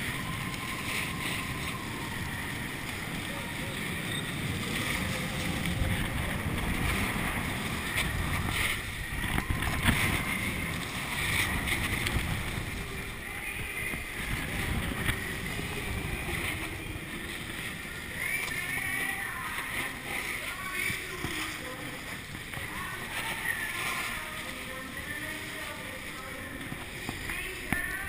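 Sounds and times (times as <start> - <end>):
skis scraping over snow: 0.0 - 28.0
wind on microphone: 0.0 - 28.0.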